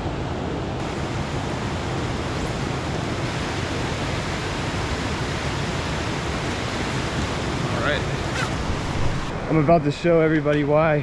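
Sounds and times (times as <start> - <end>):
fast-running creek water: 0.0 - 10.9
heavy rain falling: 0.8 - 10.8.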